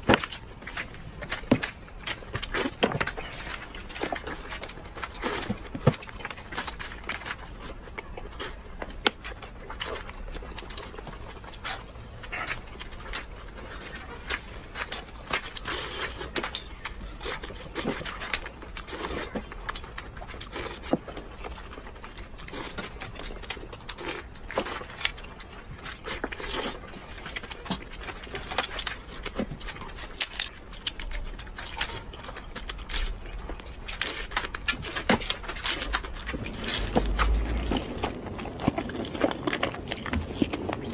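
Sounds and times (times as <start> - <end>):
person chewing crab shell: 0.0 - 40.9.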